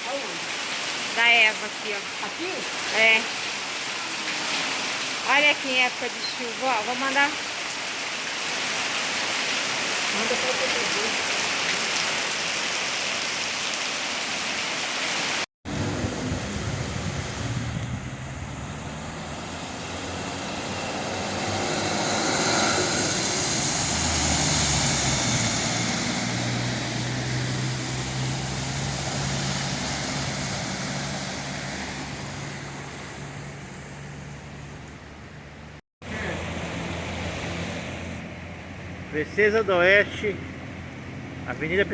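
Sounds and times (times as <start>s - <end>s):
heavy rain: 0.0s - 34.9s
running floodwater: 0.0s - 41.9s.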